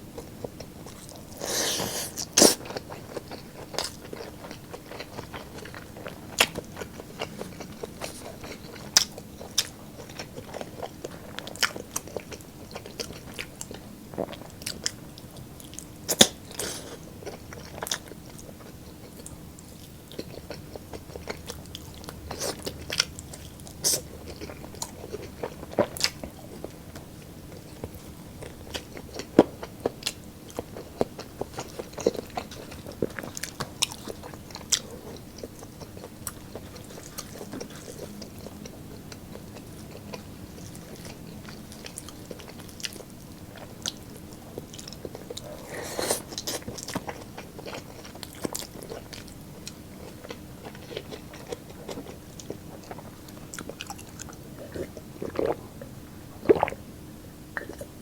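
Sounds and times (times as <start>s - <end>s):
crunchy chewing: 0.1s - 56.8s.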